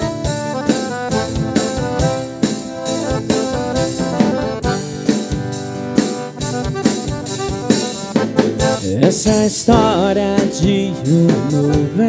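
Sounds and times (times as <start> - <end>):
accordion melody: 0.0 - 12.0.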